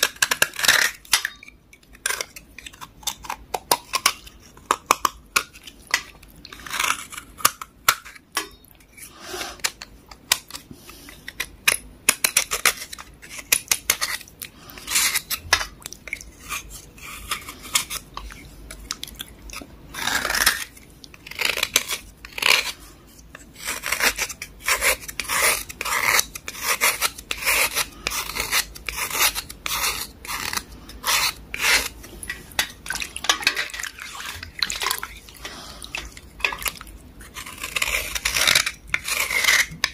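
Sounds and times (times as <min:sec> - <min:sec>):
knife scraping wet chalk: 0:00.0 - 0:18.8, 0:19.5 - 0:39.9.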